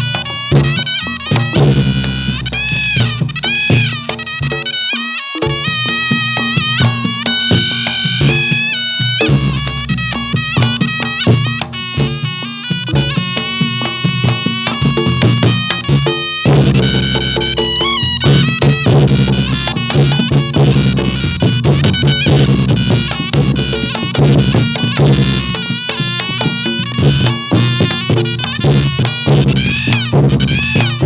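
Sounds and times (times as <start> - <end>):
rhythmic hand drumming: 0.0 - 31.0
shrill double-reed trumpet melody: 0.0 - 31.0.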